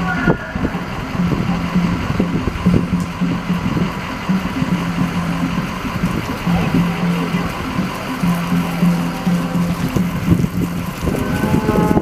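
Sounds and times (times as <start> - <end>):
engine idling: 0.0 - 12.0
street noise: 0.0 - 12.0.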